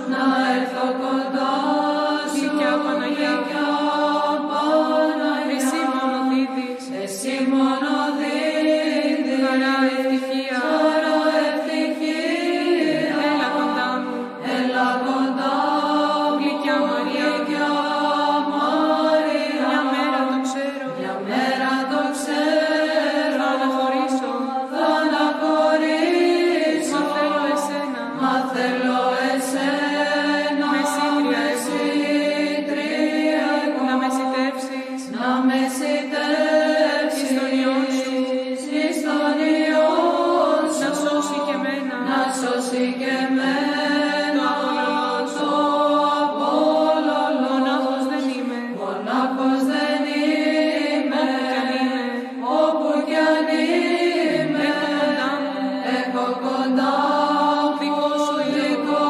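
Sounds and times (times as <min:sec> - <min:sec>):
voices chanting a hymn: 0:00.0 - 0:59.0.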